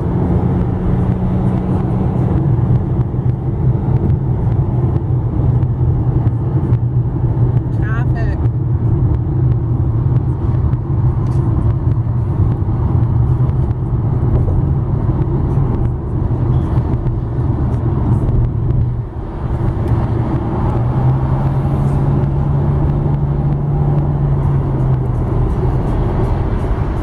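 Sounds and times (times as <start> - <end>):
car cabin road and engine noise: 0.0 - 27.0.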